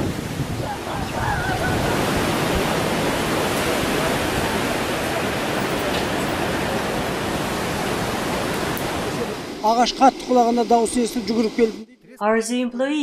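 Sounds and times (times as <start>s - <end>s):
strong wind on microphone: 0.0s - 11.2s.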